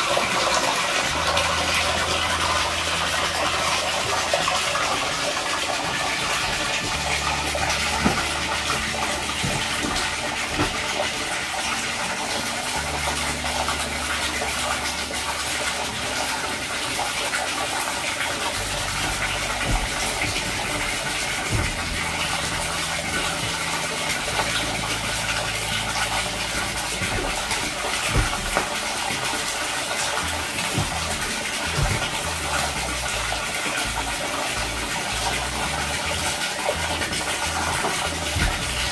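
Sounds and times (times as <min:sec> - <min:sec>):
water pouring into a pool: 0:00.0 - 0:38.9.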